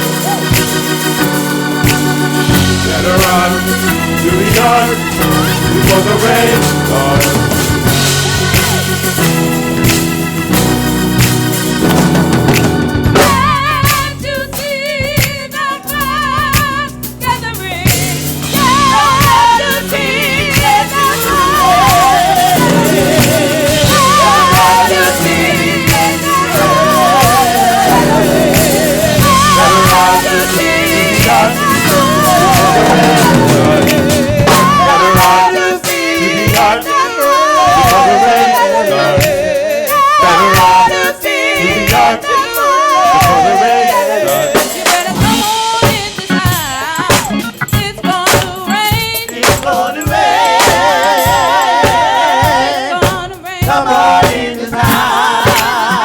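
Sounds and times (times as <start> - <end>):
church organ: 0.0 - 17.2, 17.8 - 49.7
drums: 0.0 - 56.0
gospel group singing with vibrato: 0.0 - 56.0.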